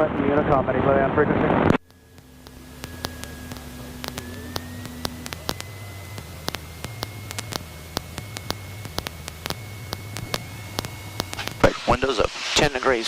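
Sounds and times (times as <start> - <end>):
steady high whine: 0.0 - 13.0
radio static crackle and clicks: 0.5 - 13.0
low engine drone: 1.8 - 13.0.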